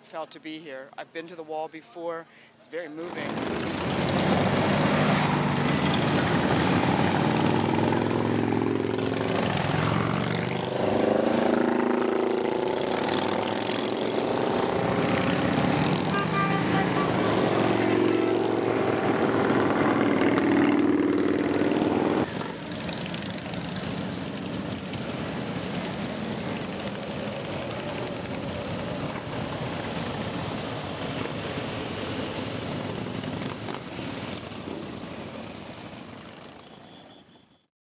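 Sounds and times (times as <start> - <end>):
motorcycles riding past: 3.1 - 37.3.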